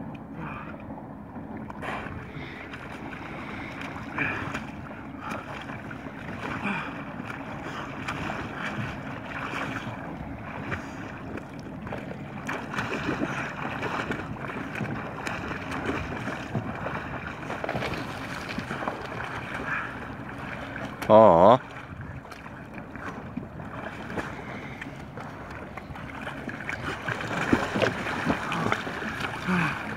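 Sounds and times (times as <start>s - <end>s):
water splashing: 0.4s - 29.9s.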